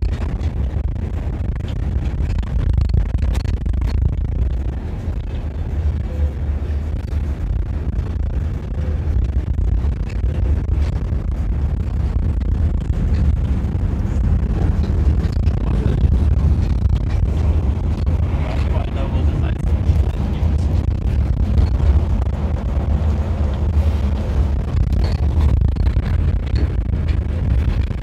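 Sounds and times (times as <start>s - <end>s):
bus engine drone: 0.0s - 28.0s.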